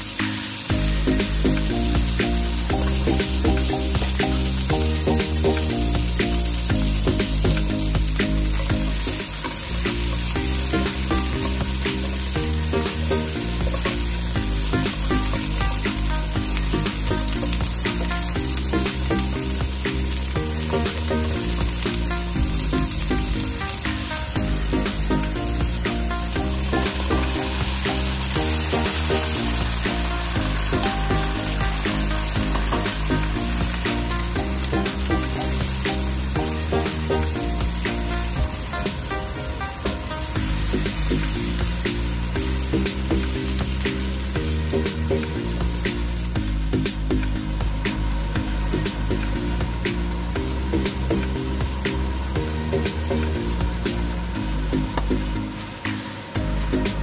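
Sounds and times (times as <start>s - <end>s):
background music: 0.0s - 57.0s
food sizzling in a frying pan: 0.0s - 57.0s.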